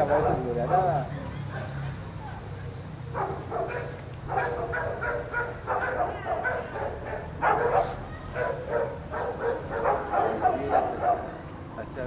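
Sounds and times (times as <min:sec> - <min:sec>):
dogs barking rapidly: 0:00.0 - 0:02.5, 0:03.1 - 0:11.4.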